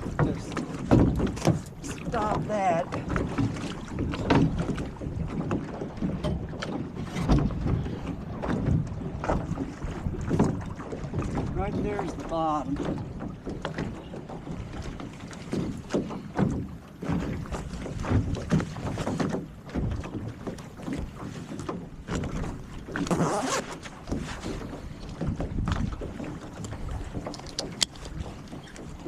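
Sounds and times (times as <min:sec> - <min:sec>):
wind buffeting microphone: 0:00.0 - 0:23.2, 0:23.9 - 0:29.0
knocks and splashy handling: 0:00.0 - 0:29.0.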